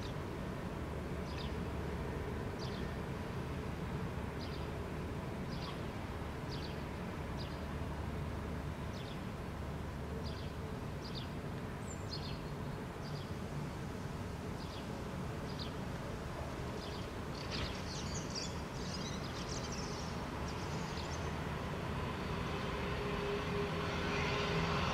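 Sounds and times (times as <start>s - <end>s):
distant traffic rumble: 0.0s - 24.9s.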